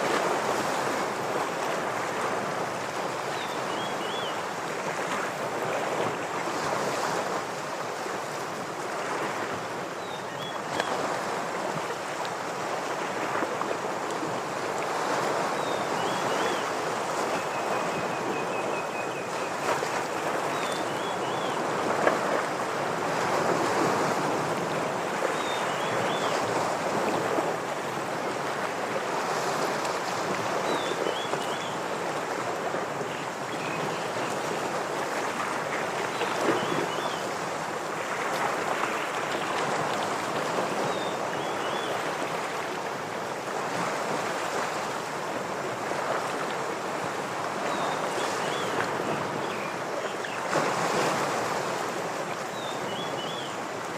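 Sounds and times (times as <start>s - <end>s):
ocean waves on rocks: 0.0s - 53.9s.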